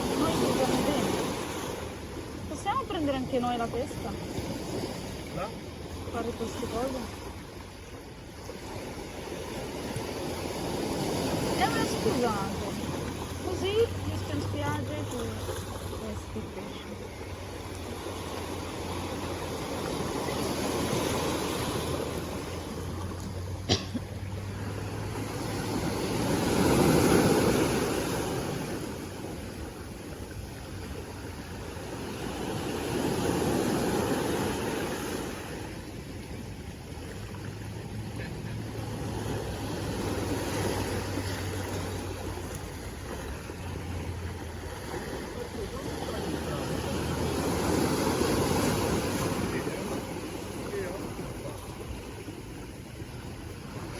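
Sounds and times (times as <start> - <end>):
sea waves washing: 0.0 - 53.9.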